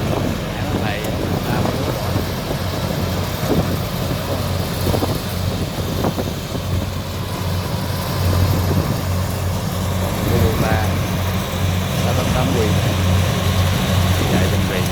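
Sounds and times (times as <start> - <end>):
combine harvester diesel engine drone: 0.0 - 14.9.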